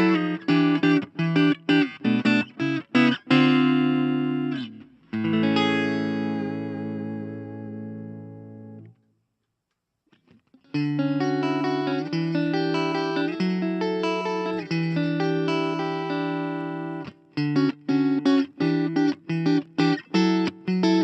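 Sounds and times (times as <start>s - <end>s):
clean electric guitar chords: 0.0s - 9.0s, 10.7s - 21.0s.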